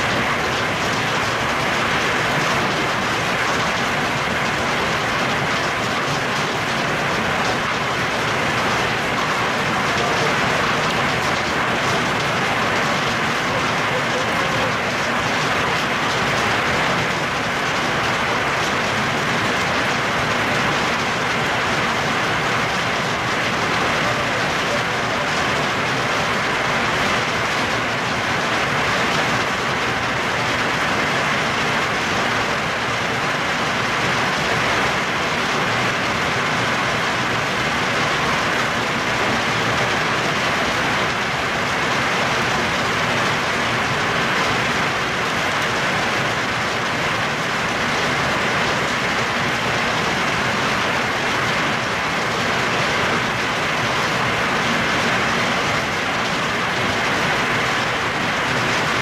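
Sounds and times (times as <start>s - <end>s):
rain and hail falling: 0.0s - 59.0s.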